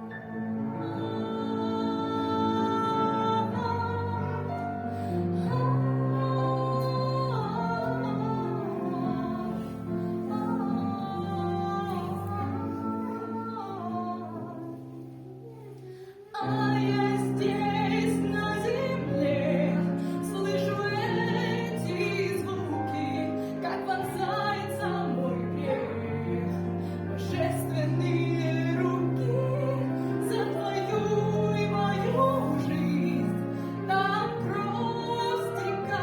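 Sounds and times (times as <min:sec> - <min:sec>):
woman singing: 0:00.0 - 0:36.0.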